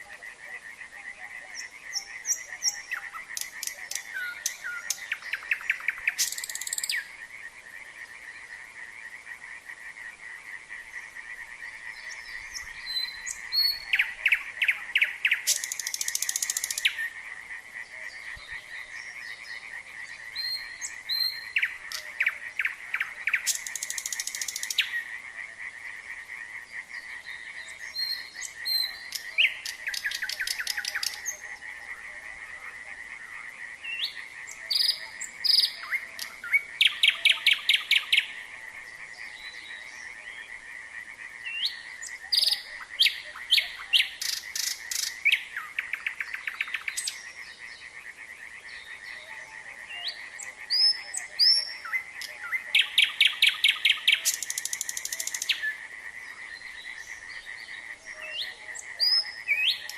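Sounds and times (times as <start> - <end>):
frogs calling: 0.0 - 59.9
nightingale singing: 0.0 - 59.9.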